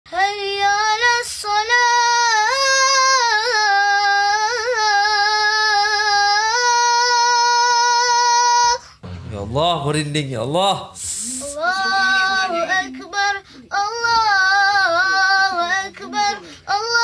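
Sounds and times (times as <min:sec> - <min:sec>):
boy chanting prayer: 0:00.1 - 0:08.8, 0:09.5 - 0:17.0.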